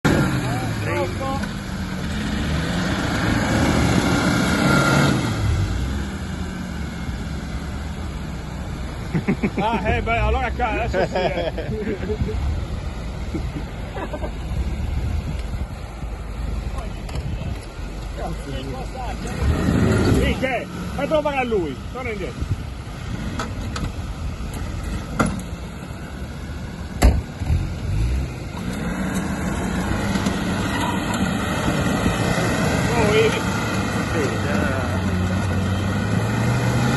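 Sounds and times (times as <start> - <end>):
off-road vehicle engine working hard: 0.0 - 36.9.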